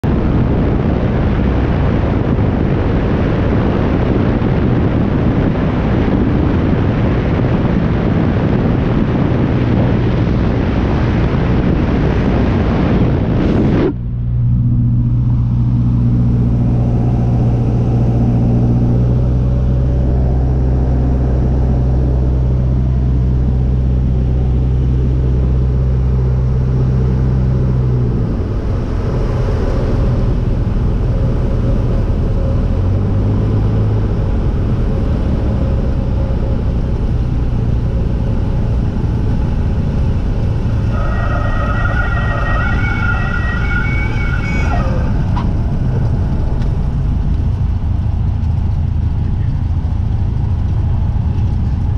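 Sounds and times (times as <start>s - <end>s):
heavy wind rush: 0.0s - 51.9s
low hum: 0.0s - 51.9s
propeller plane engine: 0.0s - 51.9s.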